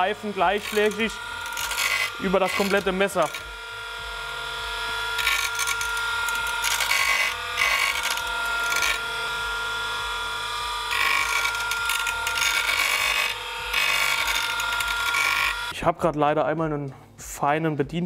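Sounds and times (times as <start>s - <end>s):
knife grinding on wheel: 0.0s - 15.8s
sharpening machine motor whine: 0.0s - 15.8s.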